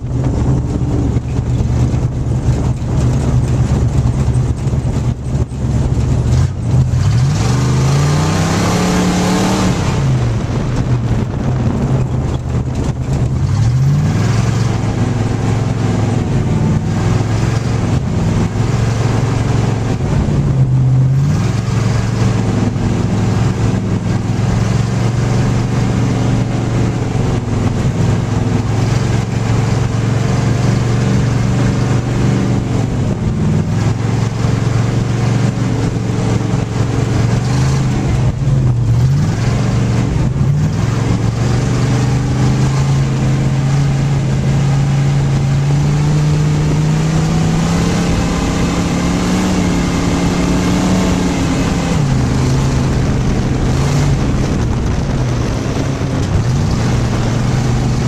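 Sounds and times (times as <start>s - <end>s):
race car engine from cockpit: 0.0s - 58.0s.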